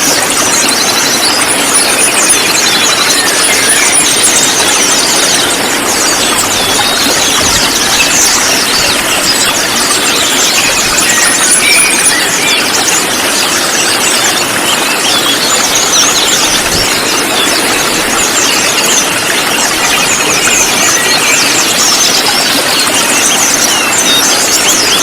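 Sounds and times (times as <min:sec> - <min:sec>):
flock of birds chirping: 0:00.0 - 0:25.0.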